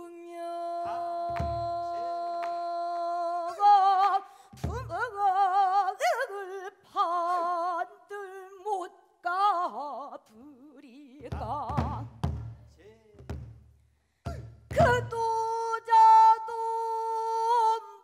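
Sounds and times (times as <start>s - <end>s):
woman singing with vibrato: 0.0s - 12.2s, 14.3s - 18.0s.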